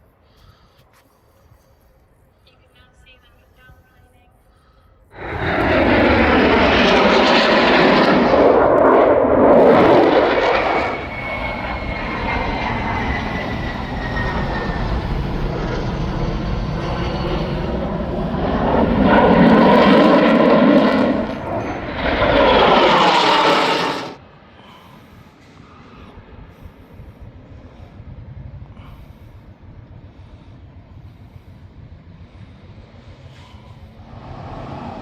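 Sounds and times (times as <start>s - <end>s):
aircraft flying past: 5.1s - 35.0s.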